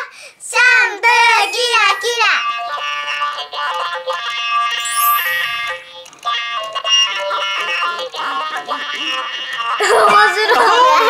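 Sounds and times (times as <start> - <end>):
toy parrot electronic tune: 1.0 - 10.0.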